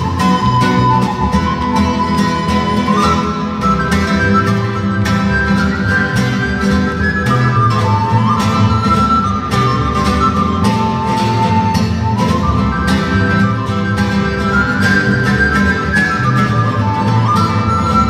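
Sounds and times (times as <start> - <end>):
double bass: 0.0 - 18.0
strummed acoustic guitar: 0.0 - 18.0
whistle melody: 0.0 - 18.0.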